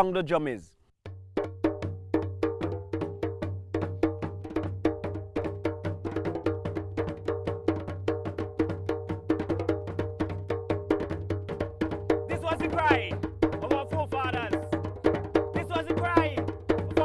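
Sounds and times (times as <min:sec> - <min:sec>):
hand drums playing: 0:01.1 - 0:17.0.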